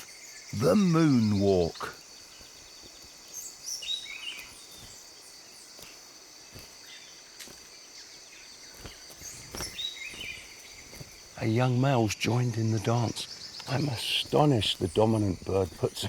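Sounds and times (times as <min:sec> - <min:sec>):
bird chirps: 0:00.0 - 0:16.0
high insect hum: 0:00.0 - 0:16.0.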